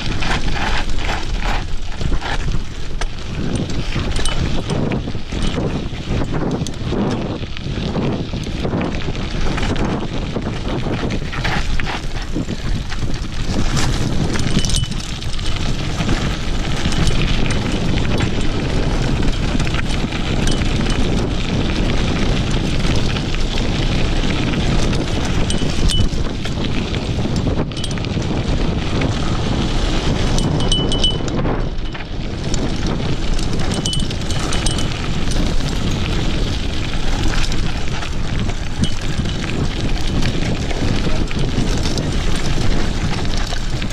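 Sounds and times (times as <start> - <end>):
bike rattling and knocking: 0.0 - 43.9
tyres rumbling on gravel: 0.0 - 43.9
wind rushing on microphone: 0.0 - 43.9.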